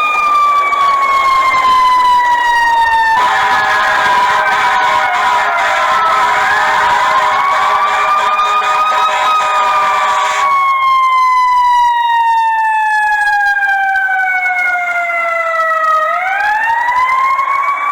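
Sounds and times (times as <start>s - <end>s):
fire truck siren wailing: 0.0s - 17.9s.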